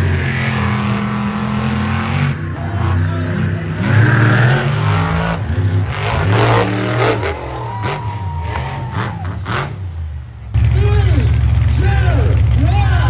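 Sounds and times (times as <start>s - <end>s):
powerful engine revving: 0.0s - 13.0s.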